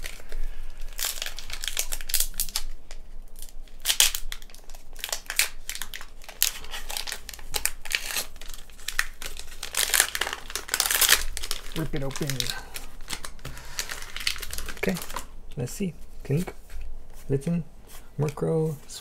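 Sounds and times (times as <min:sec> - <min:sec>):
foil wrapper crinkling and tearing: 0:00.0 - 0:15.3.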